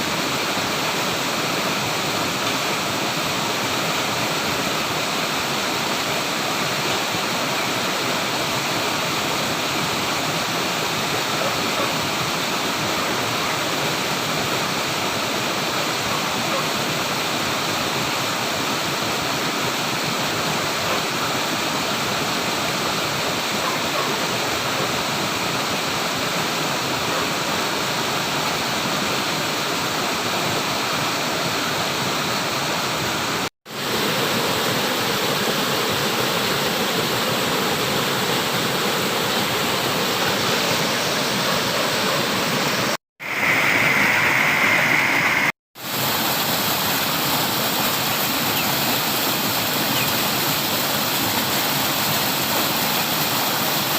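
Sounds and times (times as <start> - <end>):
flowing water rushing: 0.0 - 53.9.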